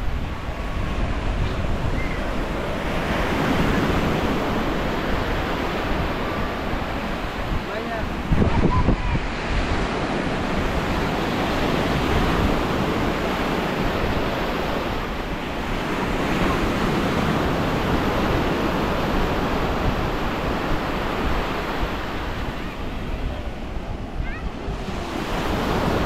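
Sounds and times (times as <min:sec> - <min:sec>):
small waves washing onto beach: 0:00.0 - 0:26.0
wind buffeting microphone: 0:00.0 - 0:26.0.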